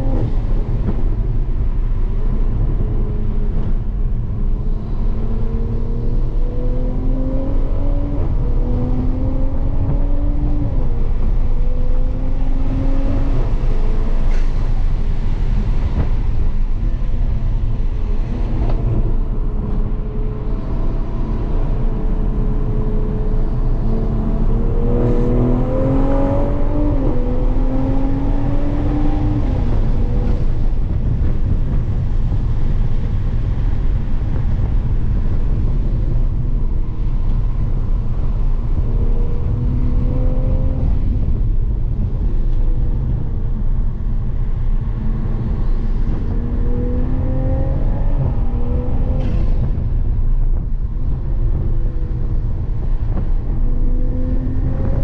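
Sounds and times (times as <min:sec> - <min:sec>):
car engine accelerating: 0:00.0 - 0:55.0
road and wind noise in car: 0:00.0 - 0:55.0.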